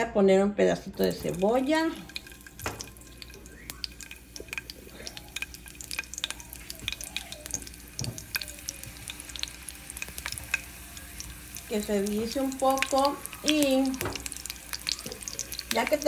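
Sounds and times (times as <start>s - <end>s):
onions frying with pops: 1.0s - 16.0s.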